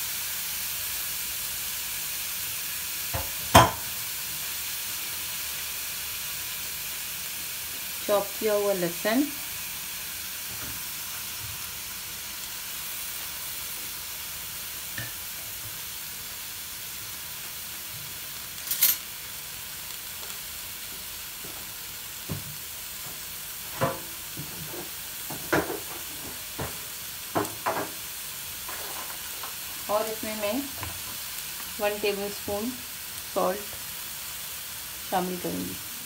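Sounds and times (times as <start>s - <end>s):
meat sizzling in a pan: 0.0s - 36.0s.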